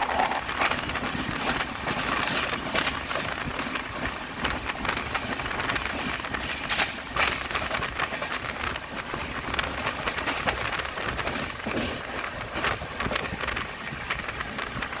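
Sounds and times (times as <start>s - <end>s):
train rushing: 0.0s - 15.0s
wheels clattering on rails: 0.0s - 15.0s.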